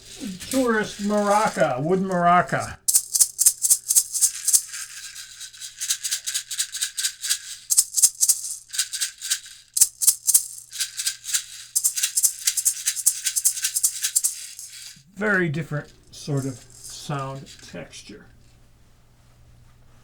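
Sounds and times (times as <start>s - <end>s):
maraca rattling: 0.0s - 18.4s.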